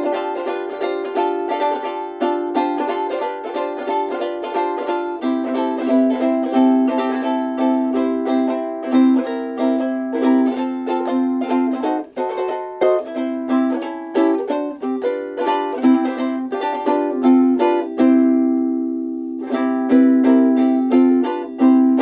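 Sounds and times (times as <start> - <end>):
ukulele strummed and picked: 0.0 - 22.0.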